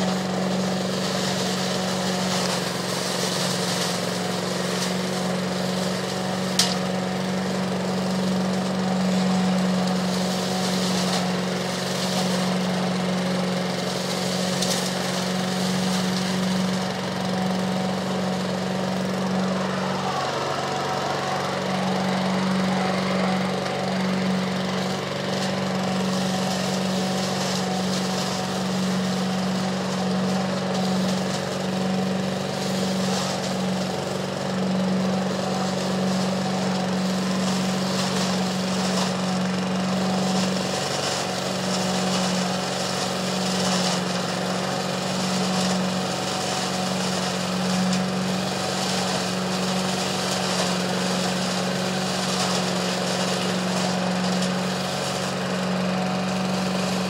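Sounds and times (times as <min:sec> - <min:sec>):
air and leaves rushing through hose: 0:00.0 - 0:57.0
small engine drone: 0:00.0 - 0:57.0.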